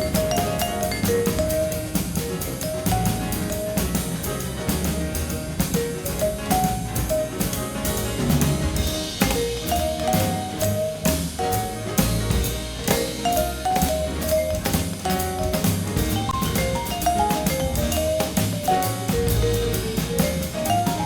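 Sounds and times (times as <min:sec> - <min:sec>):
drum kit beat: 0:00.0 - 0:21.0.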